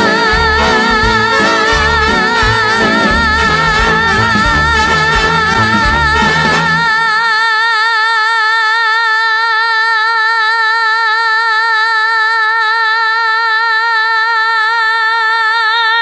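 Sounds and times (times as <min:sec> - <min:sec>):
woman singing a high note: 0:00.0 - 0:16.0.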